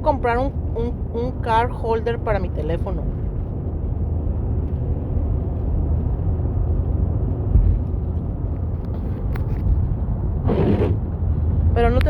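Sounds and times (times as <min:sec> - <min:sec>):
road and engine rumble in car: 0:00.0 - 0:12.0.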